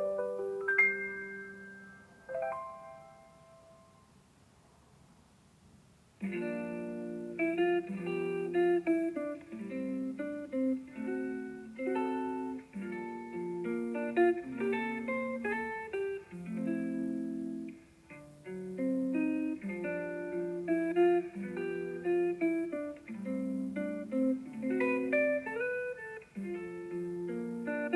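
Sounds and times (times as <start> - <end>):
plucked guitar tune: 0.0 - 3.5, 6.2 - 27.9.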